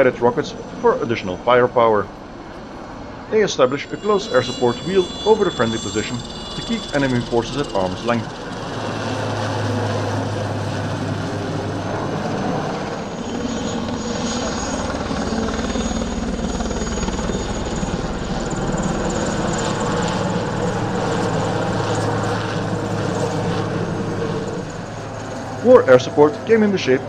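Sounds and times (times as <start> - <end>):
helicopters flying overhead: 0.0 - 27.0.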